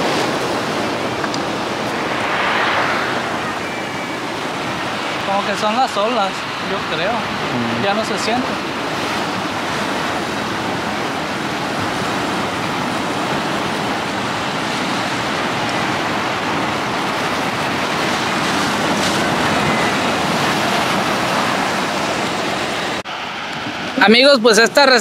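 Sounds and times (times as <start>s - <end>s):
ocean surf breaking on rocks: 0.0s - 24.3s.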